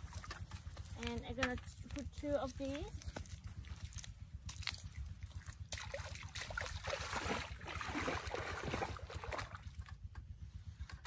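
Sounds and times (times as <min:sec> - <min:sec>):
muddy water sloshing around legs: 0:00.0 - 0:10.0.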